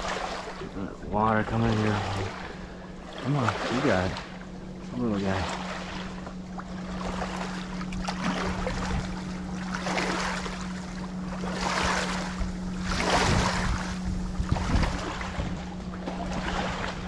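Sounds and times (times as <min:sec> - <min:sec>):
stream water rushing and splashing: 0:00.0 - 0:17.0.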